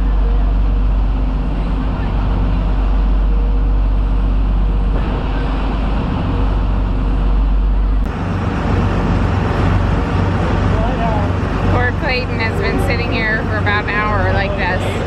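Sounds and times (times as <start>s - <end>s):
boat engine droning: 0.0s - 15.0s
churning wake rushing: 0.0s - 15.0s.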